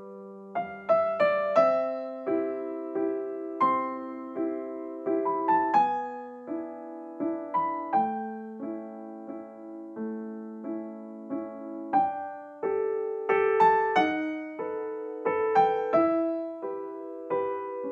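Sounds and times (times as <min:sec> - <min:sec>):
slow piano music: 0:00.0 - 0:17.9.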